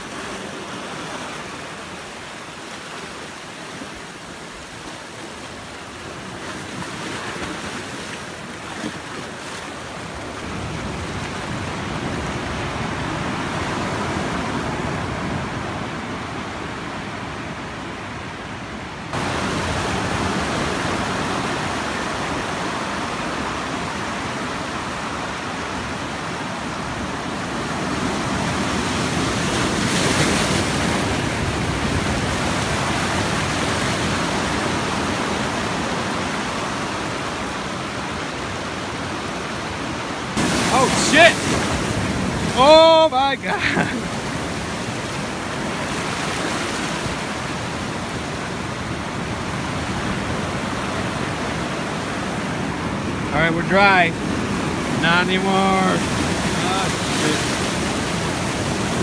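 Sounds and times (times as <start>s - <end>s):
ocean surf over rocks: 0.0s - 59.0s.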